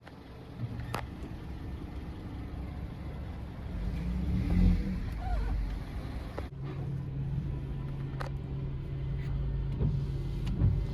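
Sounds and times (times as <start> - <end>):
car engine low rumble: 0.0 - 10.9.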